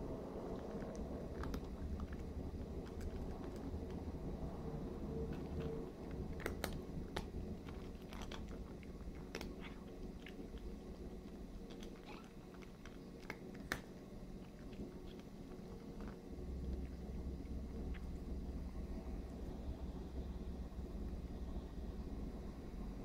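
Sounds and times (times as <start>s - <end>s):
cat crunching dry kibble: 0.0s - 19.7s
steady low hum: 0.0s - 23.0s.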